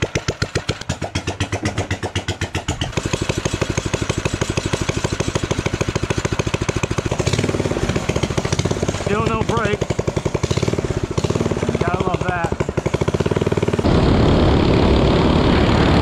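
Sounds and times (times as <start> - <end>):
pocket bike engine running: 0.0 - 16.0.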